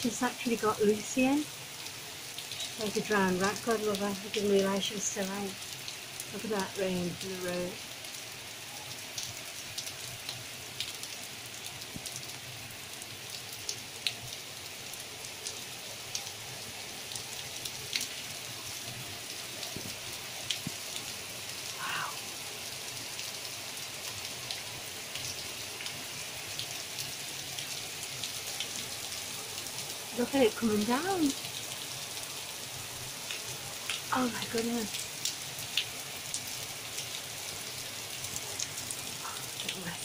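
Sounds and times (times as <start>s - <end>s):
torrential rain on hard surfaces: 0.0s - 40.0s.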